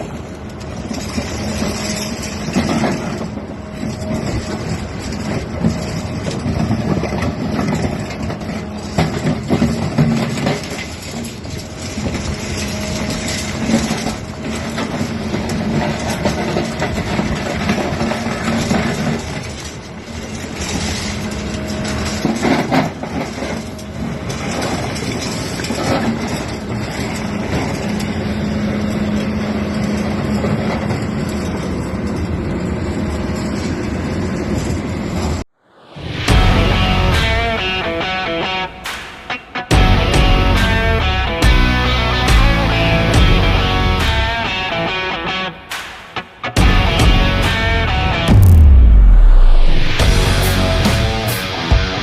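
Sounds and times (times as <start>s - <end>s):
diesel excavator engine: 0.0s - 52.0s.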